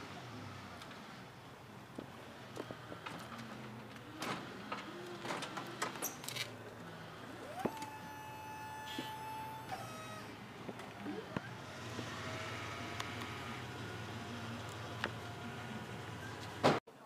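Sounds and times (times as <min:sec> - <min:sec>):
pallet jack motor whining: 0:03.0 - 0:16.7.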